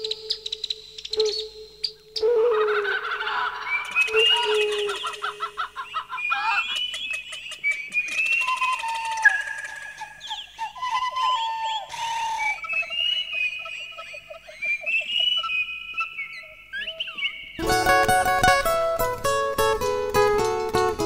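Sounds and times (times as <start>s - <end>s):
birds chirping and warbling: 0.0s - 17.6s.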